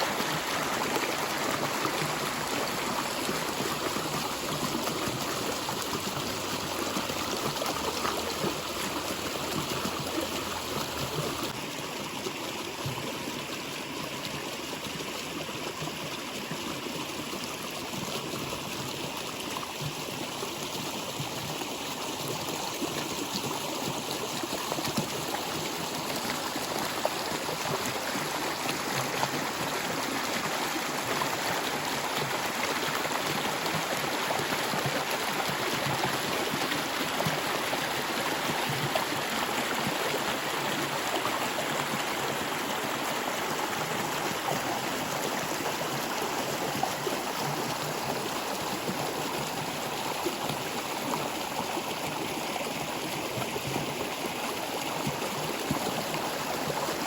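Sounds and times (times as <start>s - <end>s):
water rushing and splashing: 0.0s - 11.9s, 21.7s - 57.0s.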